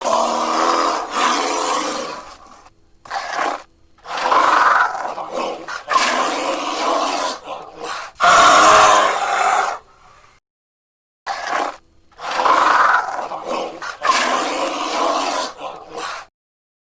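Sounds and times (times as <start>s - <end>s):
bear growling: 0.0s - 9.9s, 11.3s - 16.3s.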